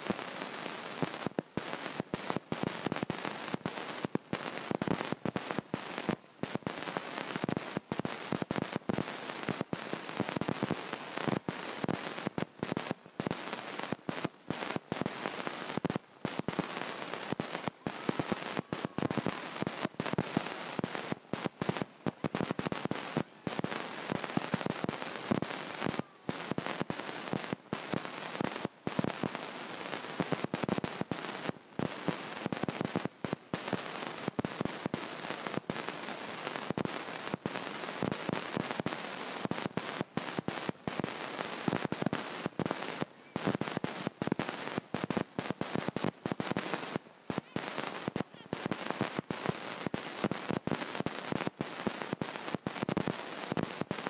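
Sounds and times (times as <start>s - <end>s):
dense crackling and popping: 0.0s - 54.0s.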